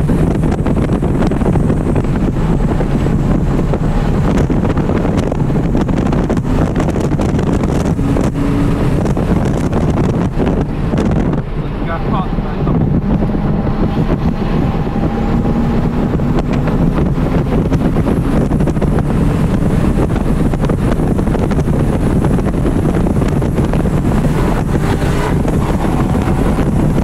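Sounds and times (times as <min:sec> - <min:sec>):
car engine accelerating: 0:00.0 - 0:27.0
wind and road noise: 0:00.0 - 0:27.0.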